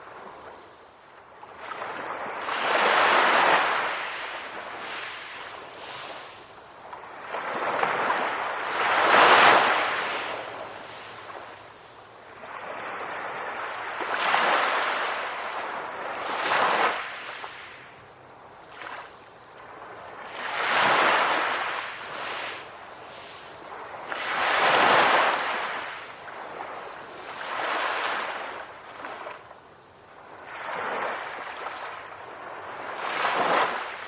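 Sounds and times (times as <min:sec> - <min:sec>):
ocean waves breaking on shore: 0:00.0 - 0:34.0.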